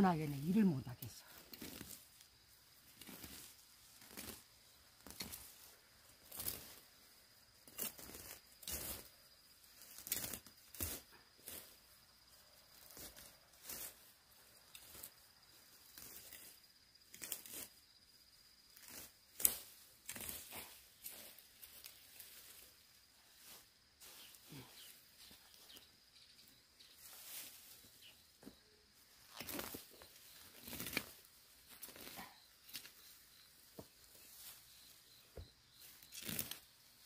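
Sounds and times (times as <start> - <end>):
weeds rustling and tearing: 0.0 - 26.0, 26.8 - 28.2, 28.9 - 37.0.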